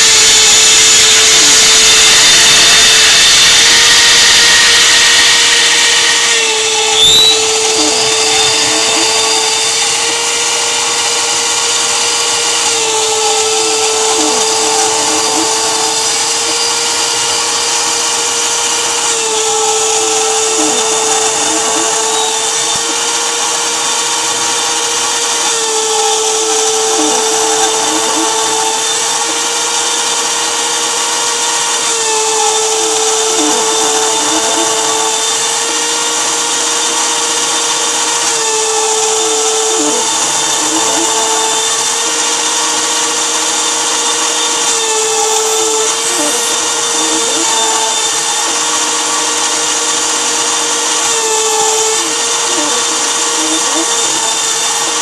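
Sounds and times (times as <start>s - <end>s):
milling machine motor whining: 0.0s - 55.0s.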